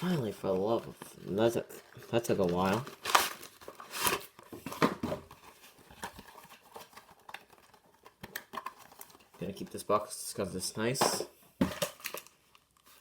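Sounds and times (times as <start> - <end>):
cardboard packaging crinkling: 0.0 - 9.6, 11.7 - 13.0.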